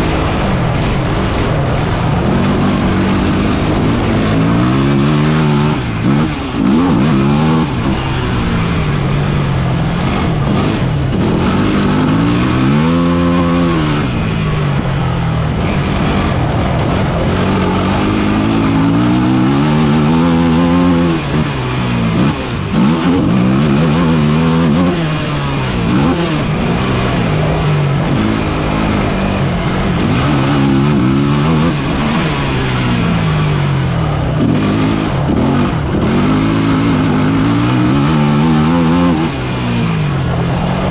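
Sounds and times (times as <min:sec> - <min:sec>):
off-road vehicle engine revving: 0:00.0 - 0:40.9
wind and road noise: 0:00.0 - 0:40.9.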